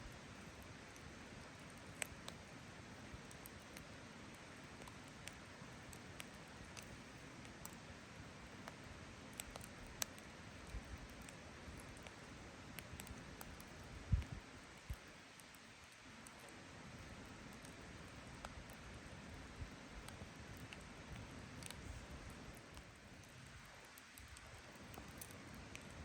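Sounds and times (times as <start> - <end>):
campfire crackling: 0.0 - 26.0
faint steady hiss: 0.0 - 26.0.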